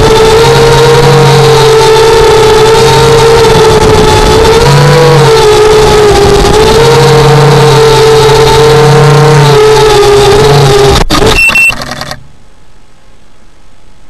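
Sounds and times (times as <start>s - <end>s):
drone motors whining: 0.0s - 12.4s
low hum: 0.0s - 14.0s.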